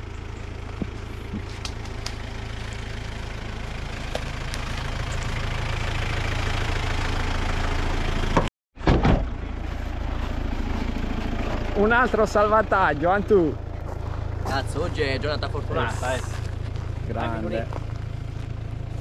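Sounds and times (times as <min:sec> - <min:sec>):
vehicle engine running: 0:00.0 - 0:08.5, 0:09.2 - 0:19.0
road noise: 0:00.0 - 0:19.0.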